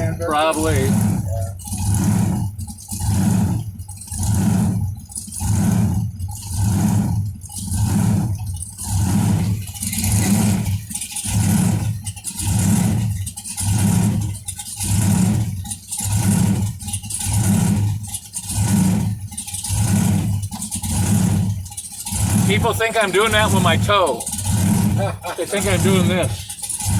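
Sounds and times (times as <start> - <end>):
supercharged car engine surging: 0.0 - 26.9.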